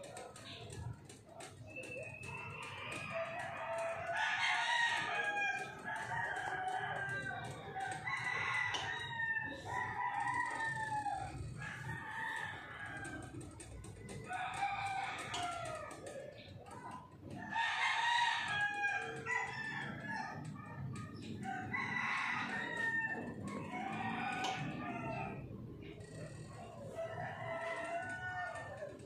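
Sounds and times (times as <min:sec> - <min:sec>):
rooster crowing: 0:01.7 - 0:13.4, 0:14.2 - 0:16.1, 0:17.4 - 0:29.0.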